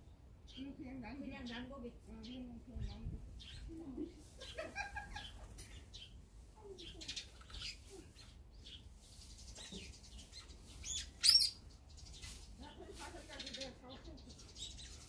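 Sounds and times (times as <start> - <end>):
small songbirds chirping: 0.0 - 15.0.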